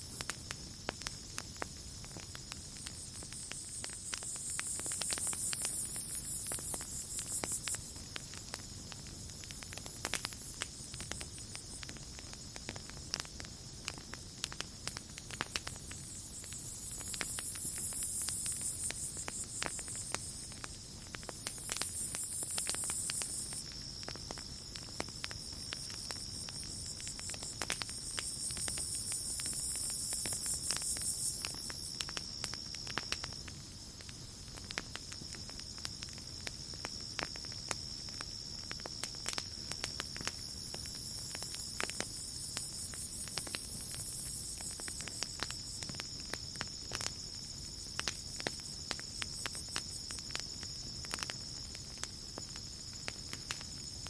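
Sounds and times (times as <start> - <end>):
campfire crackling and popping: 0.0 - 54.0
crickets trilling: 0.0 - 54.0
high insect chorus: 0.0 - 54.0.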